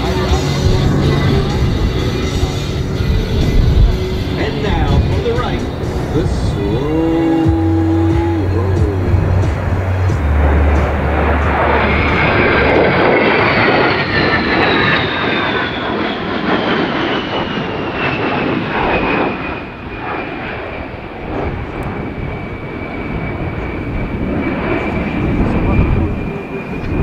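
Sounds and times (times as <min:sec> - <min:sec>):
jet engines roaring with high whine: 0:00.0 - 0:27.0.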